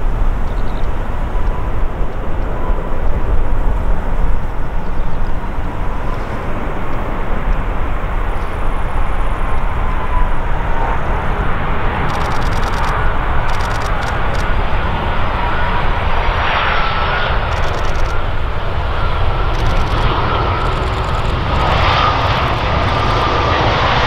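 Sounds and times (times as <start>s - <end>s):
jet engines rumbling with whine: 0.0s - 24.0s.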